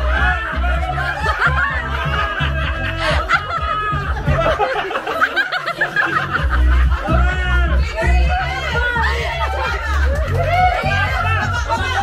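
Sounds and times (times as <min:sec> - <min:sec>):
loud party music with bass beat: 0:00.0 - 0:12.0
people laughing: 0:00.0 - 0:12.0.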